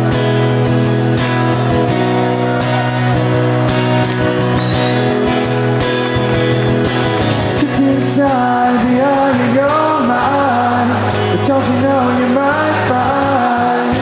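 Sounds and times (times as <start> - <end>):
live rock band playing: 0.0 - 14.0
sung melody: 0.0 - 14.0.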